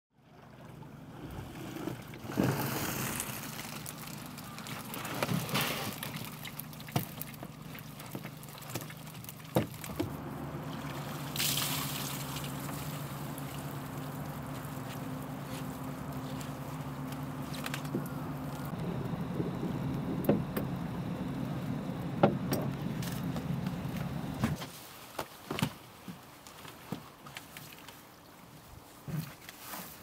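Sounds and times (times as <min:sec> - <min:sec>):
low motor hum: 0:00.2 - 0:24.6
water splashing and trickling: 0:00.2 - 0:25.0.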